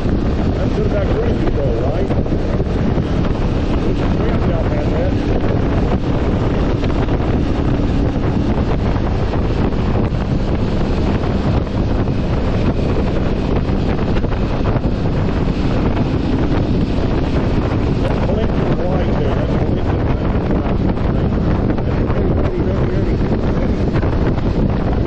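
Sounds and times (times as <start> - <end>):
motorcycle engine hum: 0.0 - 25.0
wind buffeting microphone: 0.0 - 25.0.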